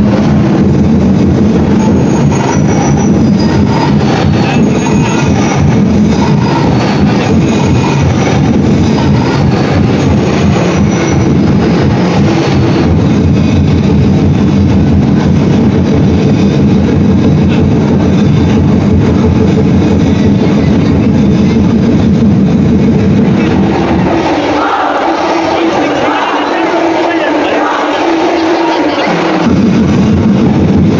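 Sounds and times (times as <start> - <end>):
loud distorted percussion music: 0.0 - 30.9.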